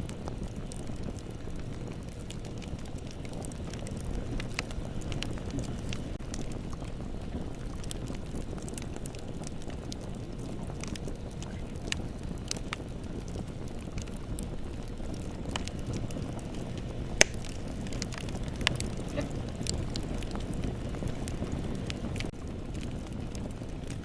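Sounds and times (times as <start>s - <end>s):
bonfire flames rumbling: 0.0s - 24.0s
fire crackling and popping: 0.0s - 24.0s.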